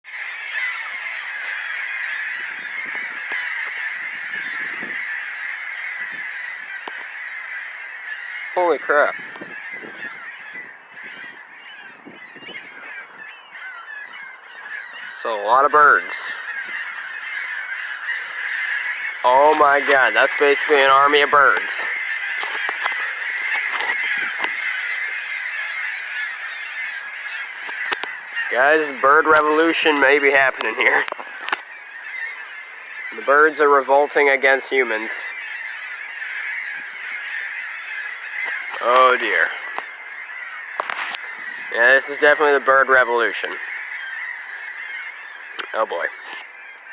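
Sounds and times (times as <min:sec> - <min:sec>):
flock of gulls squawking: 0:00.0 - 0:46.9.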